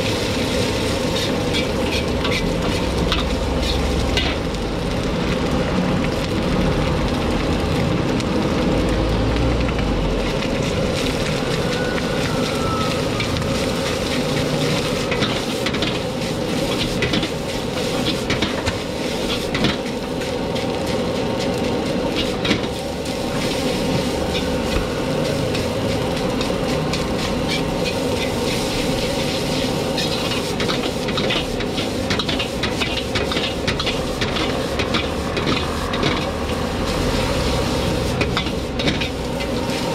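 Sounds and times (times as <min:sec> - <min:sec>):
rice sizzling in a wok: 0:00.0 - 0:39.9
metal ladle scraping wok: 0:00.1 - 0:04.4, 0:10.6 - 0:39.9.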